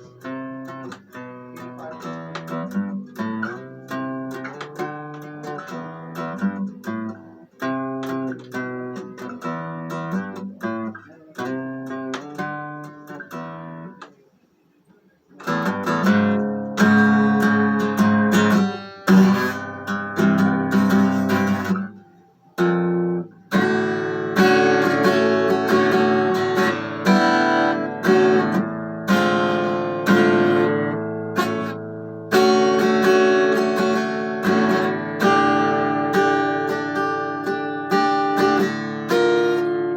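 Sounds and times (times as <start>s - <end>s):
acoustic guitar playing: 0.0s - 14.4s, 15.2s - 39.9s.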